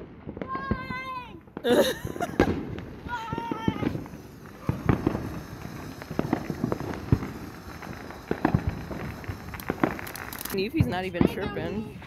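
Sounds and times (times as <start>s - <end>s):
firework crackles and pops: 0.0s - 12.0s
firework fountain spraying sparks: 0.4s - 12.0s.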